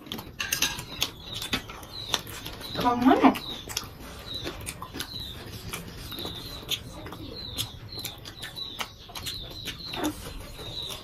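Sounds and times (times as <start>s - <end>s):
chewing with mouth clicks: 0.0s - 11.0s.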